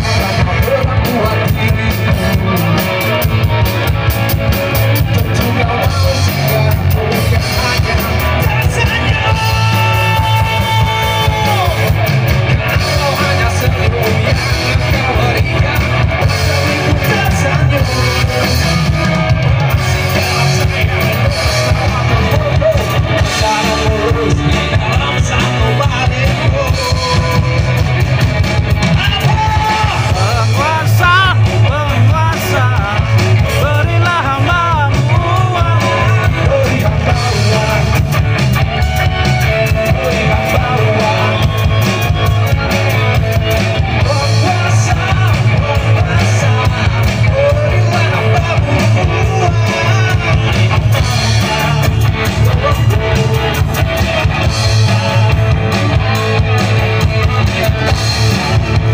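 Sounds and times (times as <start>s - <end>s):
drum kit beat: 0.0s - 58.9s
electric and acoustic guitars: 0.0s - 58.9s
held guitar lead note: 0.0s - 58.9s.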